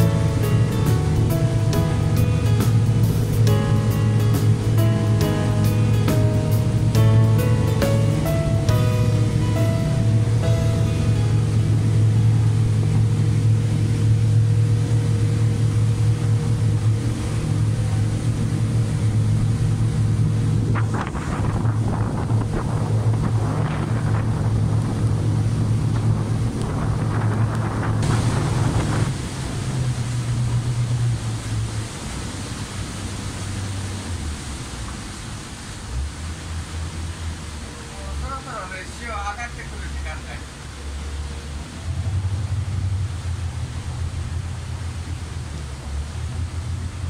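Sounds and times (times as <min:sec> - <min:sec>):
boat engine humming: 0:00.0 - 0:47.0
water rushing past hull: 0:00.0 - 0:47.0.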